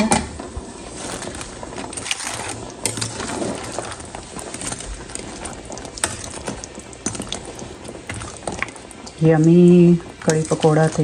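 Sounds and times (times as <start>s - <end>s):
spatula stirring and scraping: 0.4s - 11.0s.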